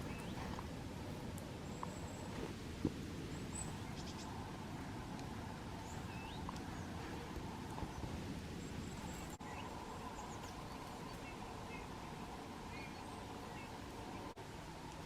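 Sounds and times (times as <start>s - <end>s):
small birds chirping: 0.0s - 14.4s.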